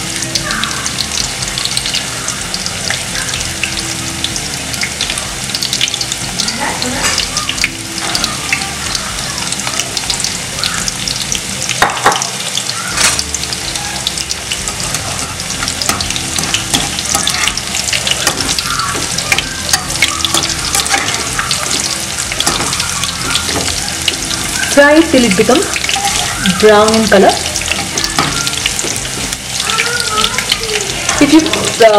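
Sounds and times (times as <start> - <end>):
food deep-frying in hot oil: 0.0 - 31.9
oil popping: 0.0 - 31.9.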